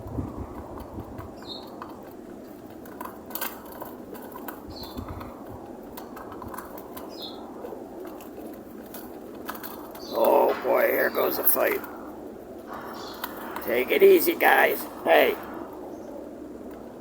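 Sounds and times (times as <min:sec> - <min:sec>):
background hum: 0:00.0 - 0:17.0
pigeons pecking seed: 0:00.0 - 0:17.0.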